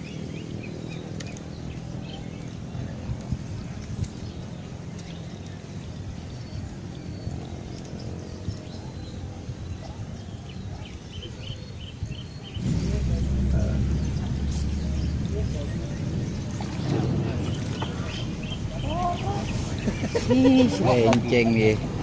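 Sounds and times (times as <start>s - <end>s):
low rumbling noise: 0.0s - 20.6s.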